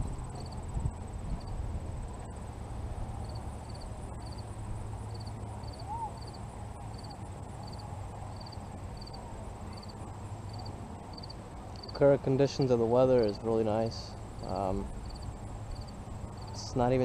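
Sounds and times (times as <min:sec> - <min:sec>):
insect chirping: 0:00.0 - 0:12.0, 0:13.3 - 0:16.9
faint high whine: 0:00.0 - 0:17.0
wind rumbling on microphone: 0:00.0 - 0:17.0.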